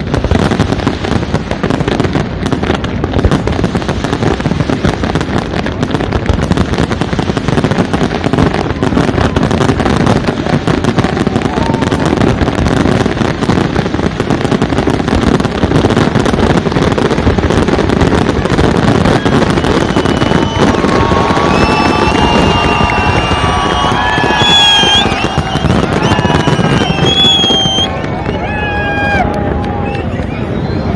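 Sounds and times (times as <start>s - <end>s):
fireworks bangs and crackle: 0.0s - 30.9s.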